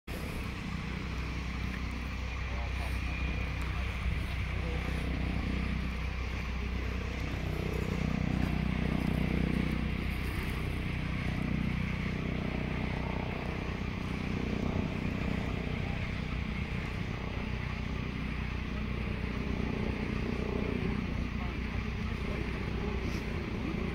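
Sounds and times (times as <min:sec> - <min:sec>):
steady low rumble: 0:00.1 - 0:23.9.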